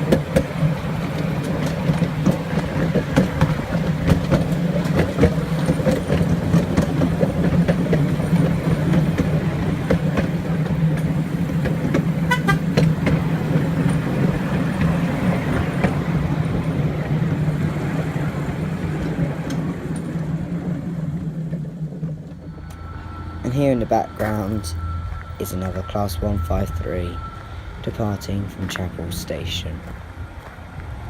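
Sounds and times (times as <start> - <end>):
diesel railcar engine running: 0.0 - 31.0.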